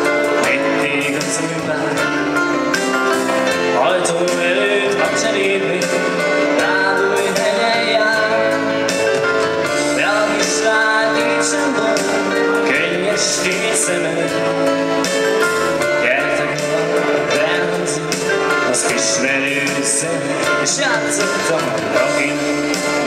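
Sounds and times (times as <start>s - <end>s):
keyboard playing sustained chords: 0.0s - 23.0s
man singing into a microphone: 0.0s - 23.0s
steady drum beat: 0.0s - 23.0s.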